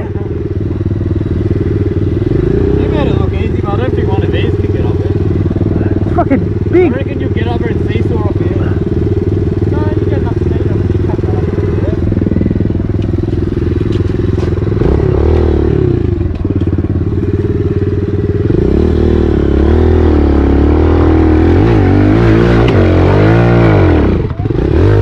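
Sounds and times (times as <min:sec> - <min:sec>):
dirt bike engine idling and revving: 0:00.0 - 0:25.0.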